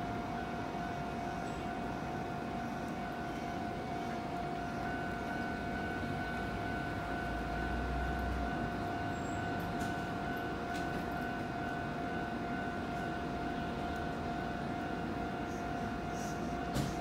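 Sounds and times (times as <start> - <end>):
electric train high-pitched whine: 0.0 - 17.0.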